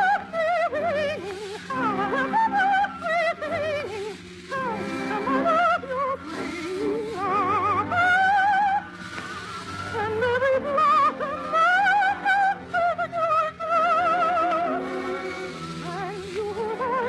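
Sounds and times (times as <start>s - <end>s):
operatic soprano singing: 0.0s - 17.0s
orchestral accompaniment: 0.0s - 17.0s.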